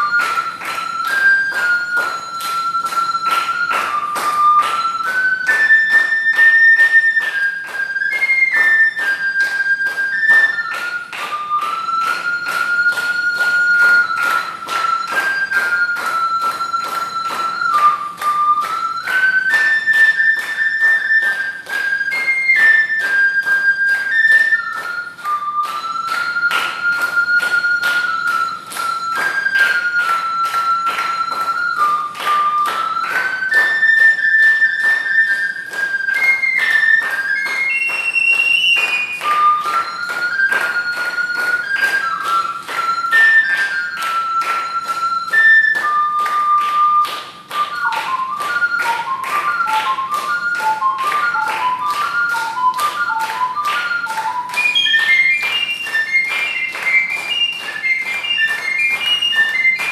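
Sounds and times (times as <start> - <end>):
ocarina melody: 0.0 - 59.9.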